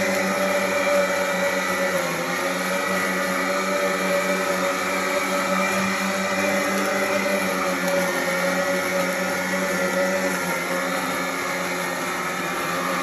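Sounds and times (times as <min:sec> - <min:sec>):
electric lawn mower running: 0:00.0 - 0:13.0
grass cutting rush: 0:00.0 - 0:13.0.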